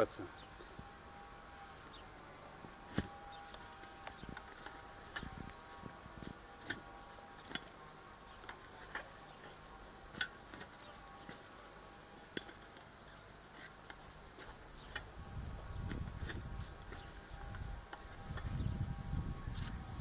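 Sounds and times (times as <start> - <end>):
faint steady hum: 0.0 - 20.0
metal tines scraping soil: 0.8 - 20.0.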